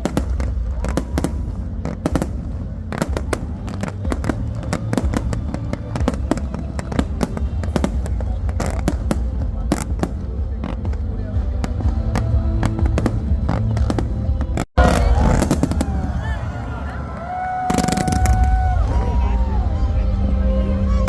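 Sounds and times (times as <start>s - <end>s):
fireworks bangs and crackles: 0.0s - 19.5s.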